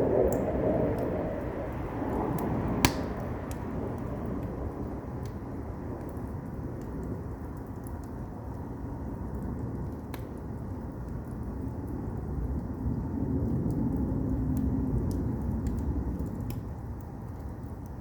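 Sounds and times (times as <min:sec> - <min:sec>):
burning wood crackling and popping: 0:00.0 - 0:18.0
fire roaring: 0:00.0 - 0:18.0.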